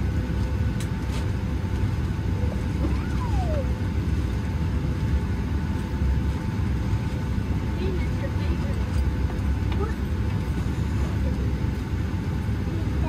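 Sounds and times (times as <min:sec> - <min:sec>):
low rumble of air and machinery: 0:00.0 - 0:13.0.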